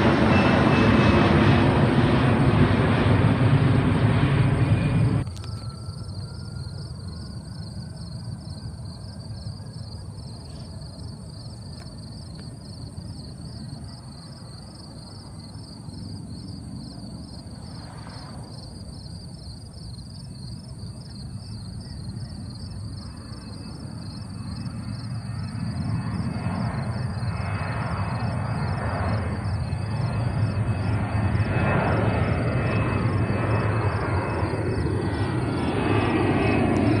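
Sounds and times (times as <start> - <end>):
distant jet engines at takeoff: 0.0 - 37.0.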